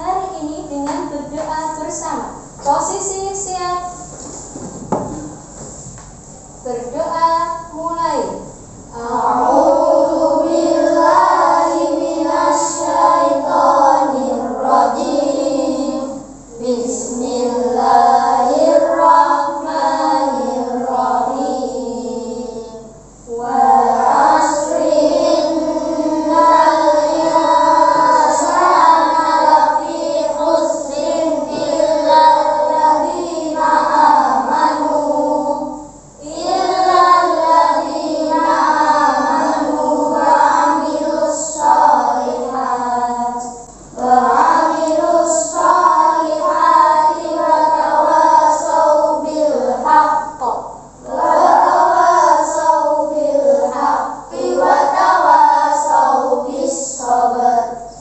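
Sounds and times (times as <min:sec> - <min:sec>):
teacher's voice: 0:00.0 - 0:05.6, 0:06.4 - 0:58.0
children chanting in unison: 0:08.9 - 0:58.0.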